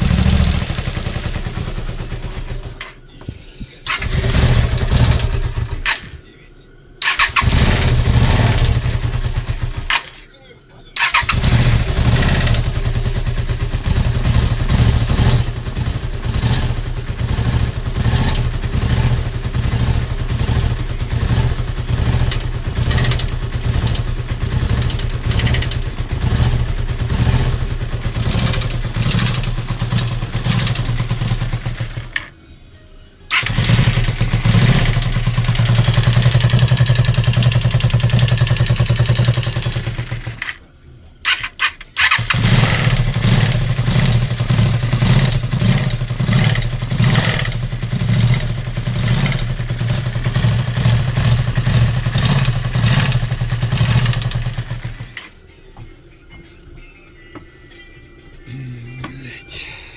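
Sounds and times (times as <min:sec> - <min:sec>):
motorcycle engine knocking: 0:00.0 - 0:02.8, 0:03.9 - 0:06.0, 0:07.2 - 0:10.0, 0:11.1 - 0:32.2, 0:33.3 - 0:40.4, 0:42.0 - 0:55.2.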